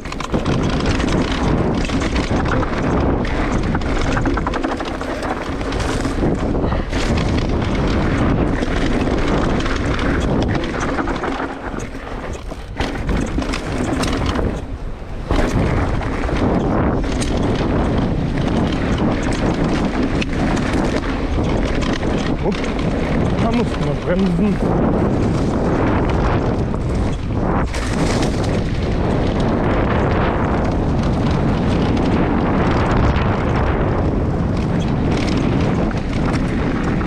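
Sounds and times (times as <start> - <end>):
mountain bike rattling: 0.0 - 37.0
wind rumble on microphone: 0.0 - 37.0.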